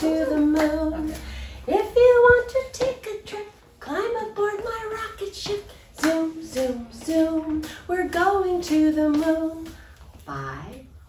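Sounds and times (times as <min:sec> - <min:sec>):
woman singing: 0:00.0 - 0:10.9.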